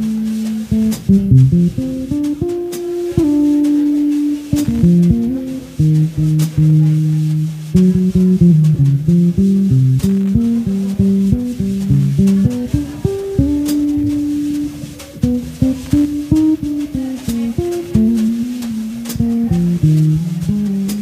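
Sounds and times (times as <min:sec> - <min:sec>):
bass guitar: 0:00.0 - 0:21.0
plucked guitar melody: 0:00.0 - 0:21.0.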